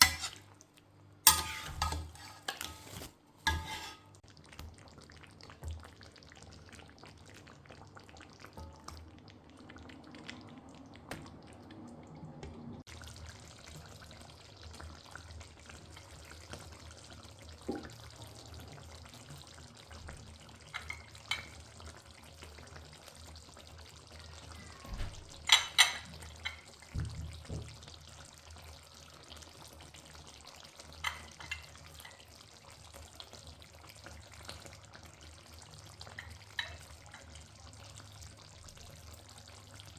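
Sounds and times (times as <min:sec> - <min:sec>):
food sizzling in a pan: 0:00.0 - 0:10.8, 0:12.8 - 0:39.9.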